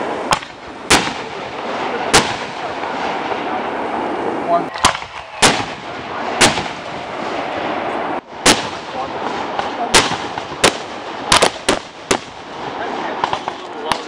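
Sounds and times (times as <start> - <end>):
fireworks bangs: 0.0 - 14.0
steady hiss: 0.0 - 14.0.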